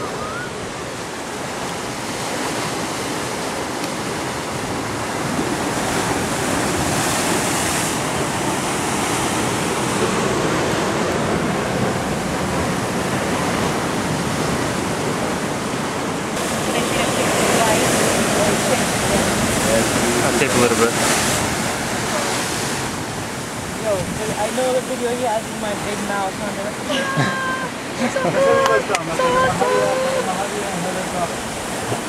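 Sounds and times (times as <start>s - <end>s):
surf breaking over rocks: 0.0s - 32.0s.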